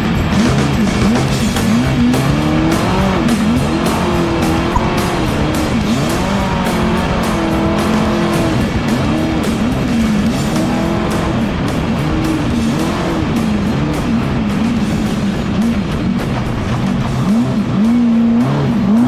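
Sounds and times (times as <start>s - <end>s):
music playing: 0.0s - 19.0s
truck engine revving: 0.0s - 19.0s.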